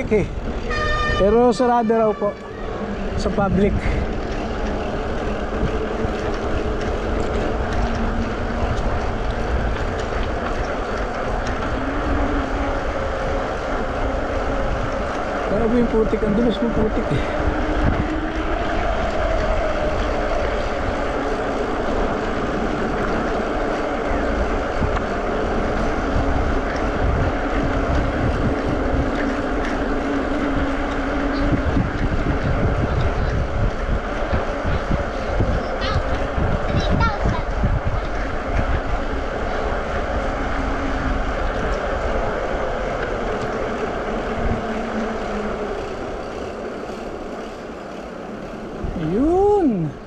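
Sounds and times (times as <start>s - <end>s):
ride rumble: 0.0s - 50.0s
wind buffeting microphone: 0.0s - 50.0s.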